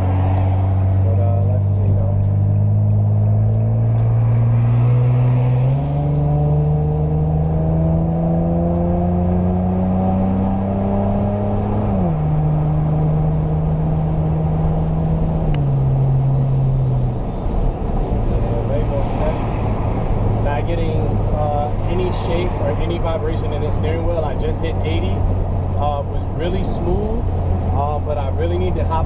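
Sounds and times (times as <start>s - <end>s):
car engine accelerating: 0.0s - 29.0s
road noise: 0.0s - 29.0s.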